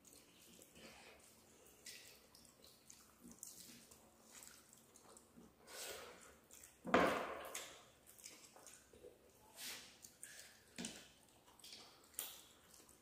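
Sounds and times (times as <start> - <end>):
chewing and mouth sounds: 0.0 - 13.0
wet squishing of food mixed by hand: 0.0 - 13.0.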